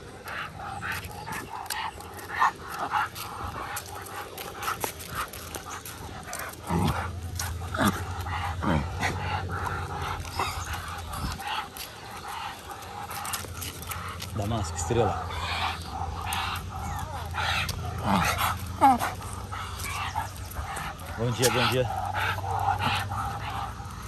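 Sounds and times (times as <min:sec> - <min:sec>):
dog vocal calls: 0:00.0 - 0:24.0
footsteps on concrete: 0:00.0 - 0:24.0.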